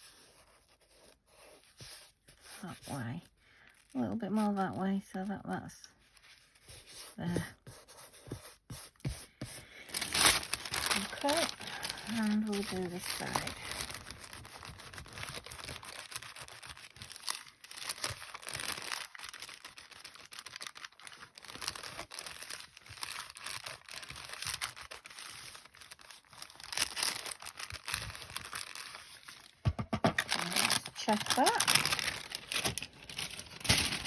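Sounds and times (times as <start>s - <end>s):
parchment paper crinkling: 0.0s - 34.0s.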